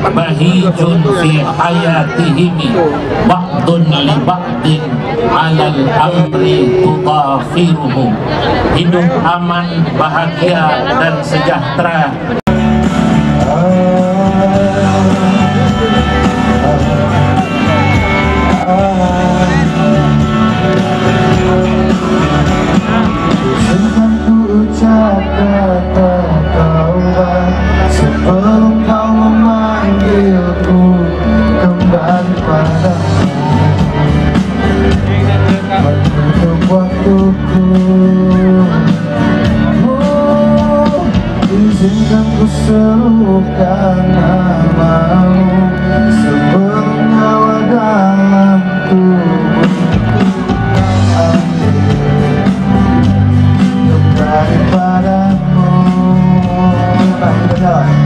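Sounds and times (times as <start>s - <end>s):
band accompaniment: 0.0s - 58.0s
man singing into a microphone: 0.0s - 58.0s.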